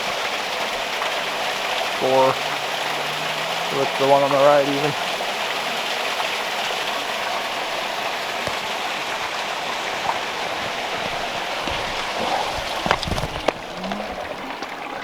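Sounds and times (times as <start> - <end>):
water trickling over rocks: 0.0 - 15.0.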